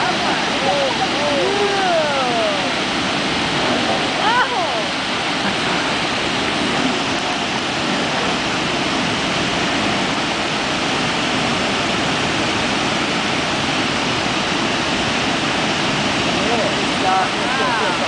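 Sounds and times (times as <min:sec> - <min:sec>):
waterfall and rapids rushing: 0:00.0 - 0:18.0.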